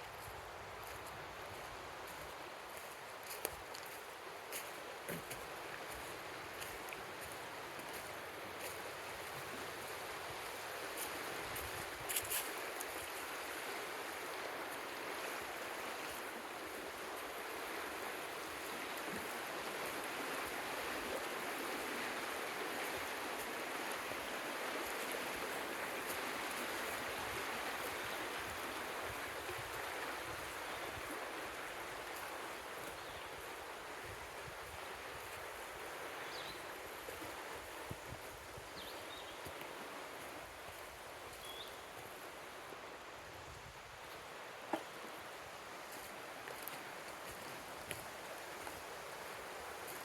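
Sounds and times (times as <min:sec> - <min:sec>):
creek water running: 0:00.0 - 0:50.0.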